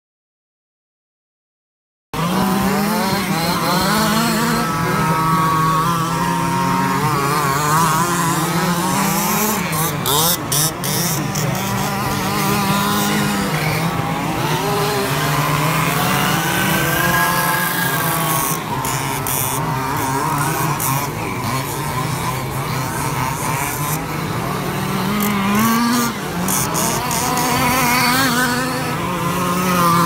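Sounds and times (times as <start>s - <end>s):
rc car engines buzzing and revving: 2.2s - 30.0s.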